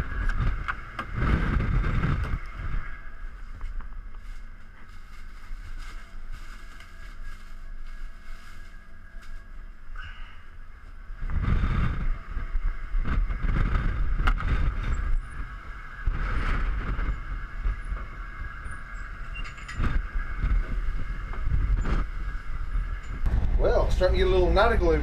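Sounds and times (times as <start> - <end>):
wind gusting across microphone: 0.0 - 8.2, 10.5 - 25.0
steady hum: 0.0 - 25.0.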